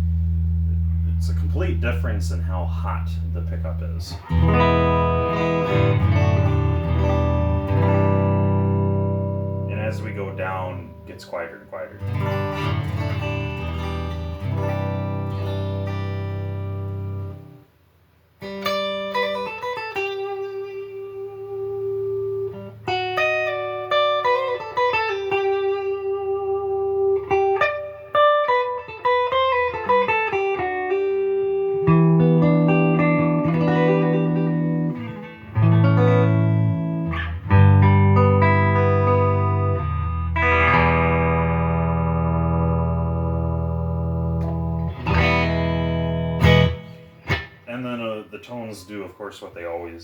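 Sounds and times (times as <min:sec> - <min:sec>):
clean electric guitar: 0:00.0 - 0:17.8, 0:18.4 - 0:49.8.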